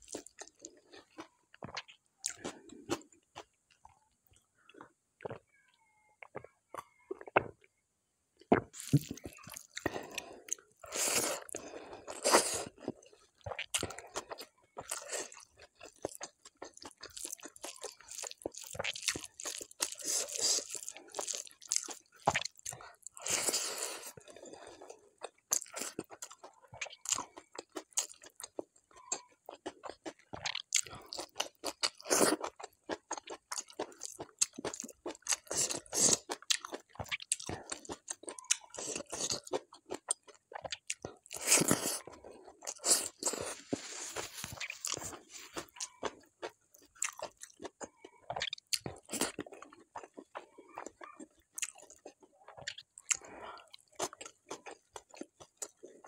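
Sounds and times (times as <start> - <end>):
chewing and crunching food: 0.0 - 7.8, 8.4 - 56.0.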